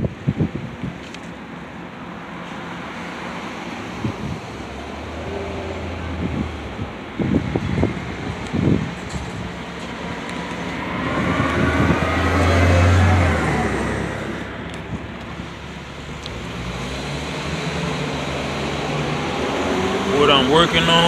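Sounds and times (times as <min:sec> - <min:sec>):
road vehicle passing by: 0:02.0 - 0:21.0.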